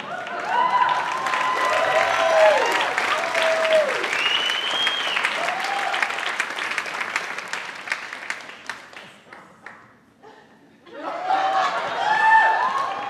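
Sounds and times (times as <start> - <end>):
audience applause: 0.0 - 9.3, 11.3 - 13.0.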